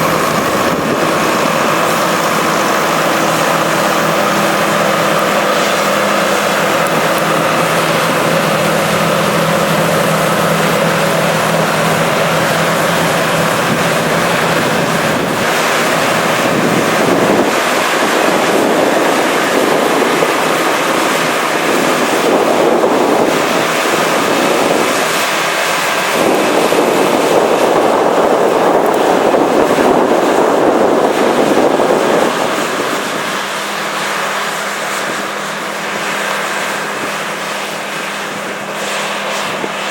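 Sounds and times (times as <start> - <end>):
broad rushing noise: 0.0 - 39.9
combine harvester engine humming: 0.0 - 39.9.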